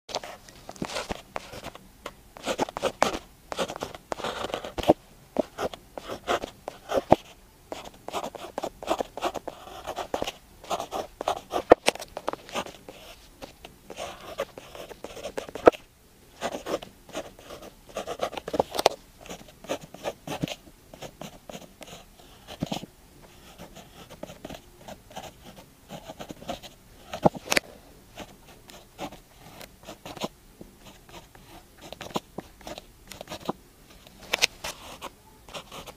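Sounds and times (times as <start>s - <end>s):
pen scratching on paper: 0.1s - 1.8s, 2.4s - 15.8s, 16.4s - 33.6s, 34.6s - 35.9s.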